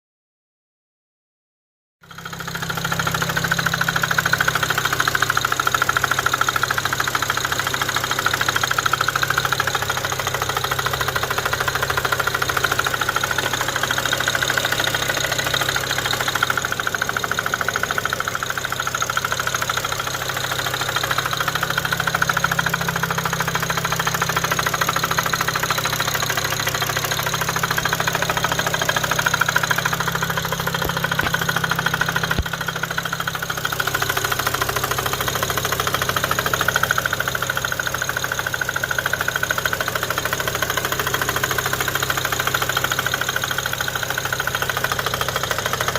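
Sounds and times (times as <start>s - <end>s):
car engine idling: 2.0s - 45.9s
rapid engine knocking: 2.0s - 45.9s.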